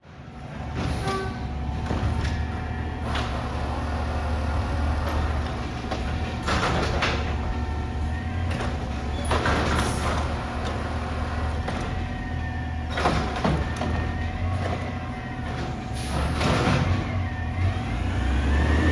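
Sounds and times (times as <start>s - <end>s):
truck diesel engine running: 0.3s - 18.9s.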